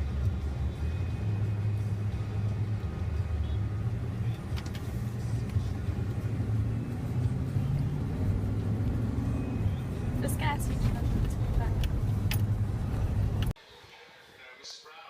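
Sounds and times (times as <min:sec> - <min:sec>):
car engine and road rumble: 0:00.0 - 0:13.6.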